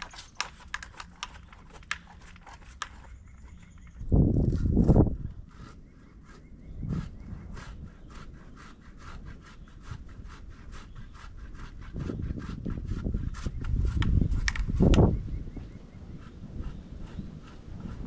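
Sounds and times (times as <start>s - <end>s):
pole saw rasping through wood: 0.0s - 18.0s.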